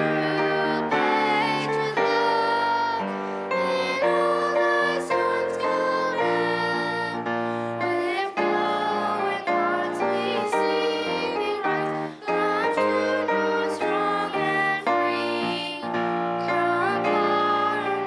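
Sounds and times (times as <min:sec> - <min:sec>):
piano accompaniment: 0:00.0 - 0:18.0
young voices singing: 0:00.0 - 0:18.0.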